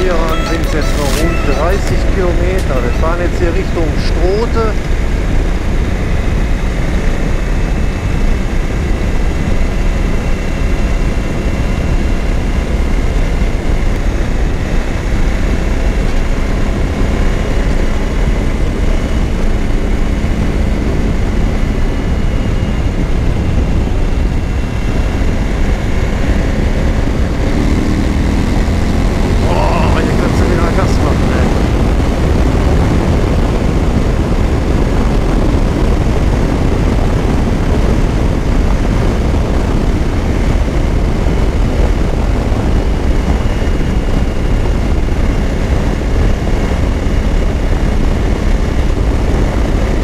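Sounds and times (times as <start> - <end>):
motorcycle engine droning: 0.0 - 50.0
wind rush on microphone: 1.2 - 50.0.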